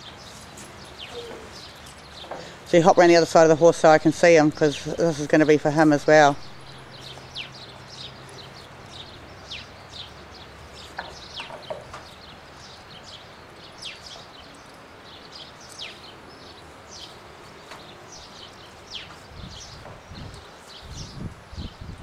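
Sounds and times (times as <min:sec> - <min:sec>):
faint outdoor background noise: 0:00.0 - 0:22.0
small birds chirping: 0:00.0 - 0:22.0.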